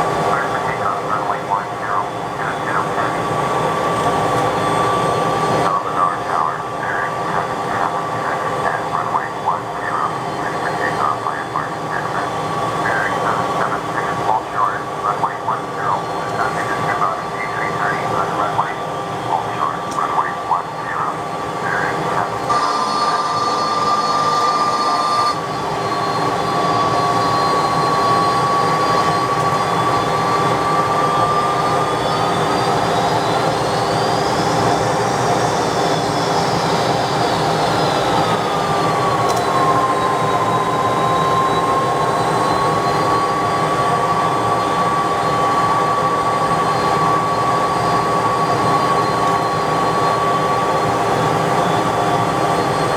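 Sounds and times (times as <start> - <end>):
jet engines whining: 0.0 - 52.9.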